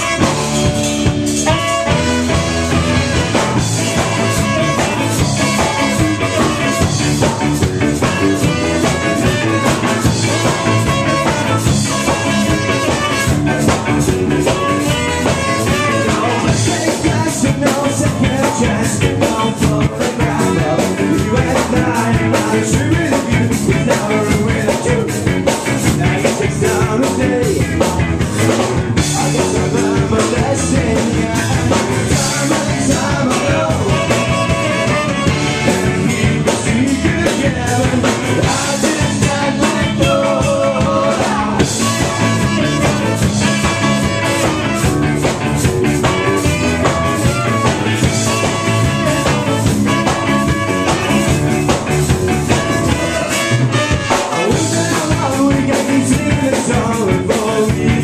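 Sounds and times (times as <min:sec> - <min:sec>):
man singing: 0:00.0 - 0:45.4, 0:46.0 - 0:51.8, 0:52.4 - 0:58.0
bass guitar: 0:00.0 - 0:58.0
drums: 0:00.0 - 0:58.0
electric guitar: 0:00.0 - 0:58.0.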